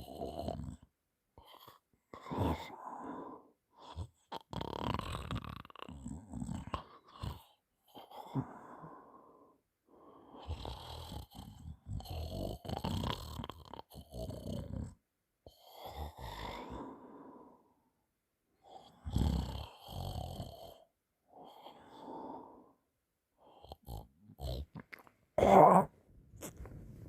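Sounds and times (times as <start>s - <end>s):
person snoring: 0.0s - 0.8s, 1.4s - 17.7s, 18.6s - 22.8s, 23.4s - 26.7s.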